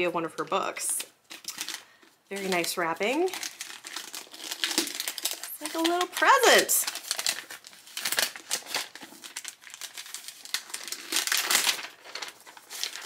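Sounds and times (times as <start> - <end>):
wrapping paper crinkling: 0.4 - 13.0.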